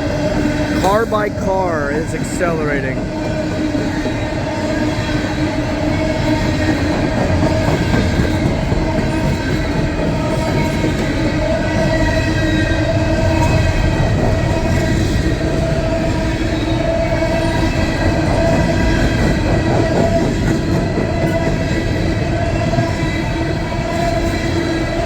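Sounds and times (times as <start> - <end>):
rumble of train wheels: 0.0 - 25.0
wheels squealing on rail: 3.0 - 25.0.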